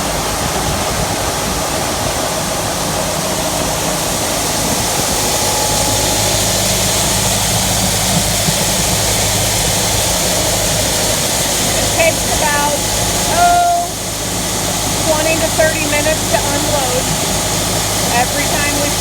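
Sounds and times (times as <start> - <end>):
grain rushing through auger: 0.0 - 19.0
tractor engine humming: 0.0 - 19.0.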